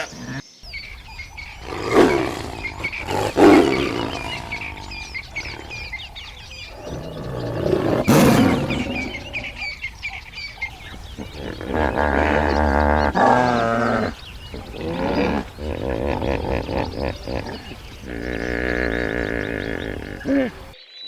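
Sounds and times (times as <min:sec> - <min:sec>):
livestock calling: 0:00.0 - 0:20.8
small birds chirping: 0:00.0 - 0:21.0.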